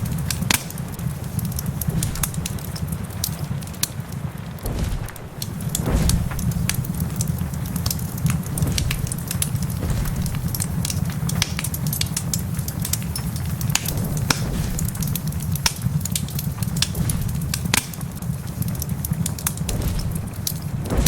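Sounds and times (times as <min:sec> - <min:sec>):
sharp pops of fire: 0:00.0 - 0:21.0
steady low rumble: 0:00.0 - 0:21.0
wood fire crackling: 0:00.0 - 0:21.0.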